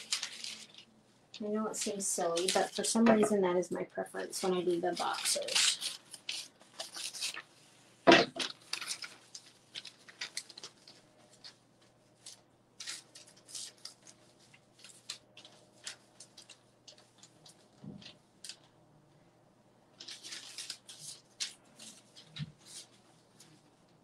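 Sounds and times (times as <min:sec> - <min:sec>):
paper and fabric rustling: 0:00.0 - 0:03.6, 0:04.2 - 0:18.8, 0:19.9 - 0:24.0.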